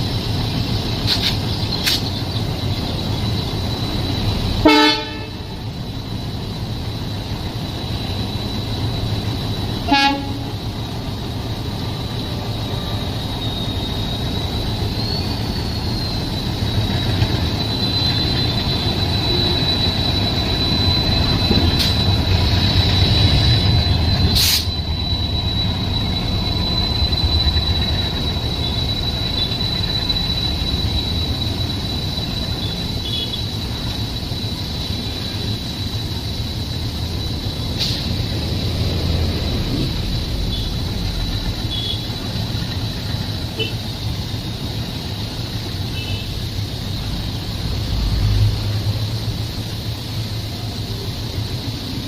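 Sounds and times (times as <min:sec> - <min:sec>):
train rumbling on track: 0:00.0 - 0:52.0.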